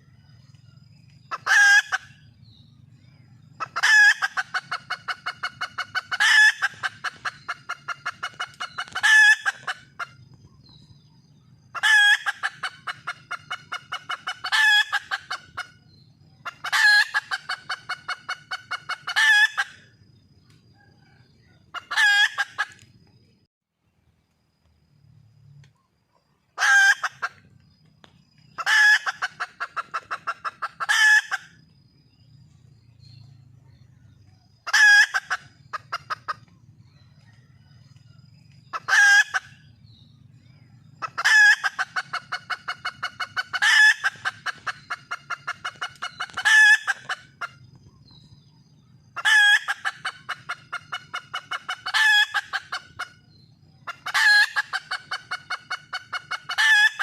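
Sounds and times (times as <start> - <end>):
hen calling and clucking: 0.8 - 23.2, 26.2 - 32.4, 33.5 - 48.4, 49.0 - 57.0.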